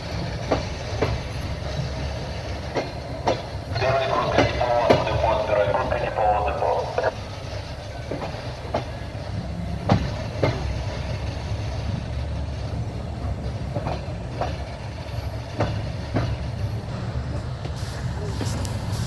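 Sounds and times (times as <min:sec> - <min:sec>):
wheels clacking on rail joints: 0:00.0 - 0:06.6, 0:07.4 - 0:19.0
train wheels rumbling: 0:00.0 - 0:19.0.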